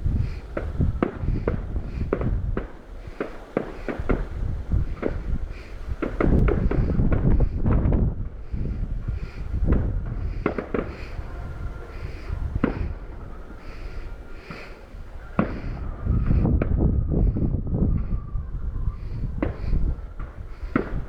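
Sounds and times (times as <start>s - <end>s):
fireworks bangs: 0.0s - 21.0s
low rumble of fireworks bursts: 0.0s - 21.0s.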